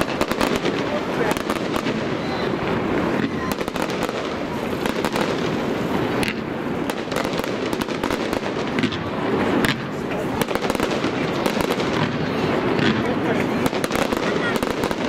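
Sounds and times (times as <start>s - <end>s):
fireworks bursting and crackling: 0.0s - 15.0s
sharp firework reports: 0.0s - 15.0s.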